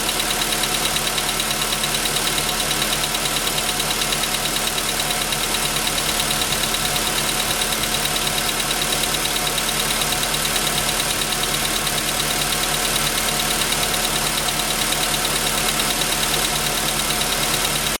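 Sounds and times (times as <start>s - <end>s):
car engine idling: 0.0s - 18.0s
rhythmic piston knock: 0.1s - 18.0s.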